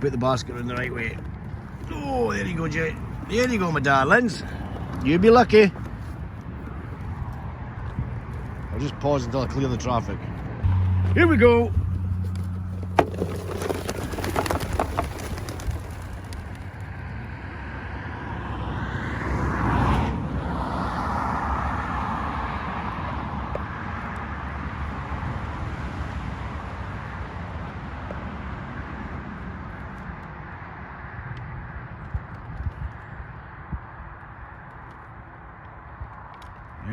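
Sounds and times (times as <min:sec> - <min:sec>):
car passing on road: 0:00.0 - 0:32.4.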